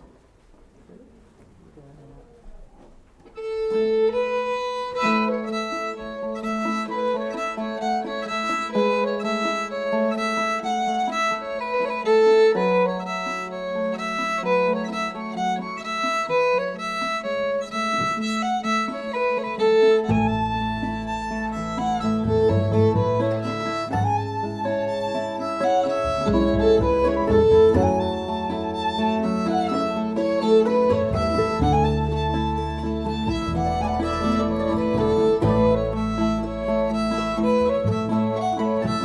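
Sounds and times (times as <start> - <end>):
fiddle playing quick melody: 3.4 - 39.0.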